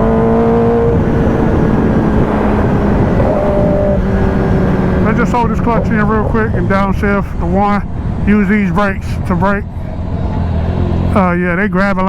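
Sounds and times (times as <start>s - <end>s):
wind rushing on microphone: 0.0s - 11.2s
motorcycle engine running: 0.0s - 11.7s.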